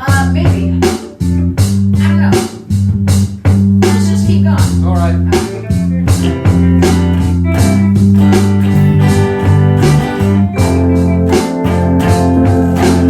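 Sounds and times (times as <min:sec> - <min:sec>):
bluesy guitar band music: 0:00.0 - 0:13.0.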